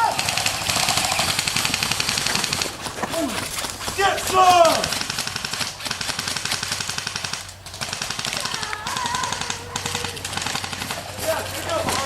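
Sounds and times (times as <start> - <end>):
airsoft guns firing full-auto: 0.0 - 12.0.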